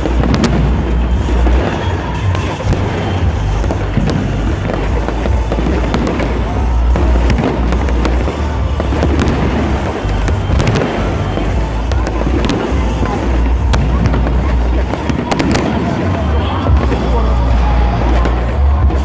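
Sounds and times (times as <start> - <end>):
fireworks cracks and bangs: 0.0 - 19.0.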